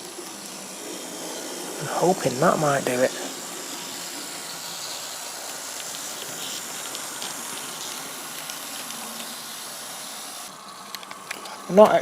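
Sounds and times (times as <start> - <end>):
steam hiss: 0.0 - 12.0.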